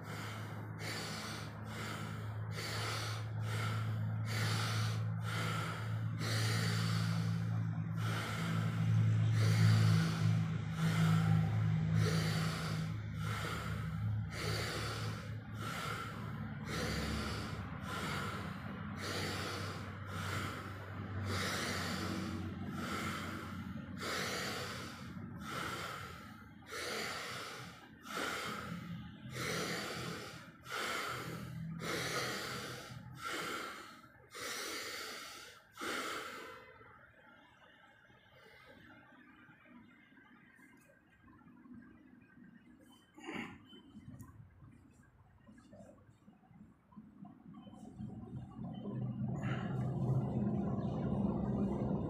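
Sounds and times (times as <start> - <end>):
person breathing forcefully: 0.0 - 37.5, 47.8 - 52.0.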